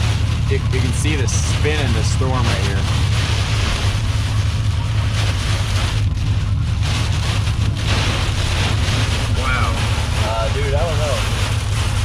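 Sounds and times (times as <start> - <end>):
heavy low rumble: 0.0 - 12.0
strong wind buffeting truck: 0.0 - 12.0.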